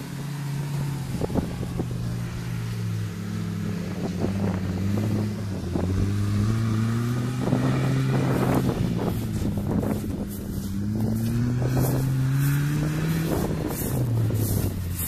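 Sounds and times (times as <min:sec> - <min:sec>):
off-road vehicle engine under load: 0:00.0 - 0:15.0.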